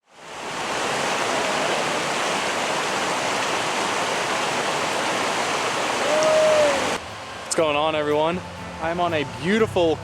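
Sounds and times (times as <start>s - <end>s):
stream flowing: 0.0s - 10.0s.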